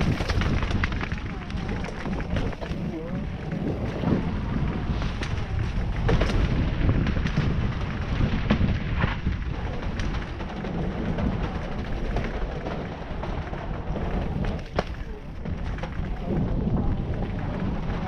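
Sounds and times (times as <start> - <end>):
mountain bike rattling: 0.0 - 18.0
tyres rolling over dirt: 0.0 - 18.0
wind rumble on microphone: 0.0 - 18.0.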